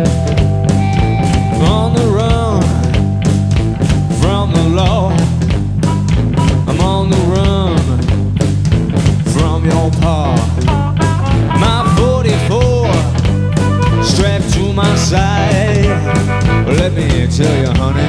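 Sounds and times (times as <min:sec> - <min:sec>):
lead guitar bent sliding notes: 0:00.0 - 0:08.0, 0:09.7 - 0:18.0
blues-rock band playing: 0:00.0 - 0:18.0.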